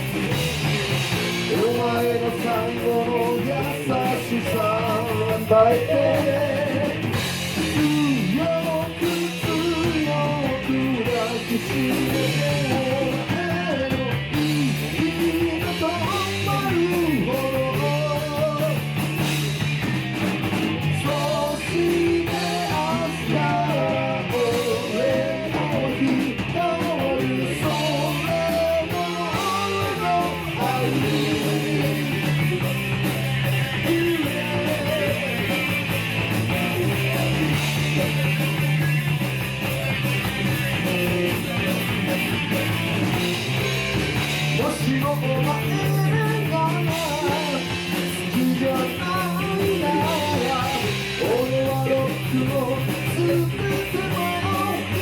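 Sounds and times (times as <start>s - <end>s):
rock band playing: 0.0s - 55.0s
wavering lead guitar line: 0.0s - 55.0s.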